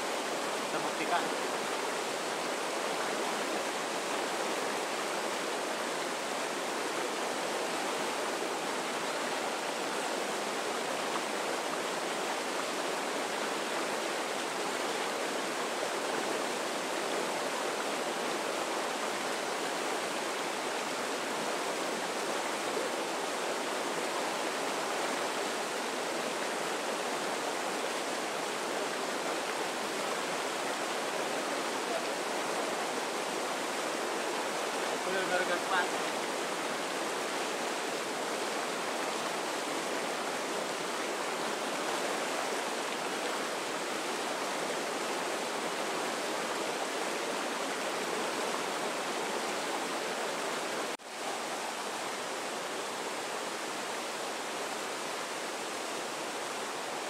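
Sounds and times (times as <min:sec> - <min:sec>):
river rapids rushing over rocks: 0:00.0 - 0:57.0.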